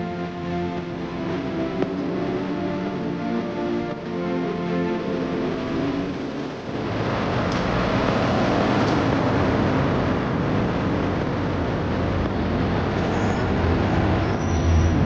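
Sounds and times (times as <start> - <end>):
bus engine running: 0.0 - 15.0
road traffic: 0.0 - 15.0.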